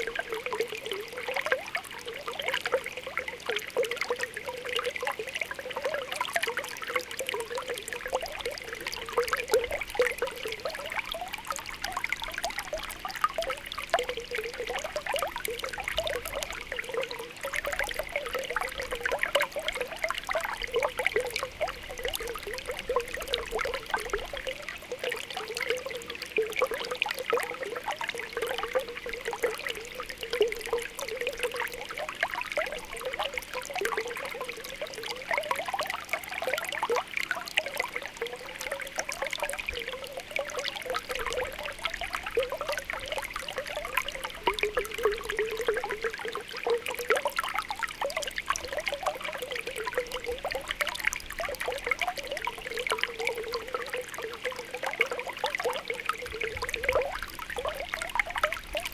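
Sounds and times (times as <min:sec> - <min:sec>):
spring water bubbling: 0:00.0 - 0:58.9.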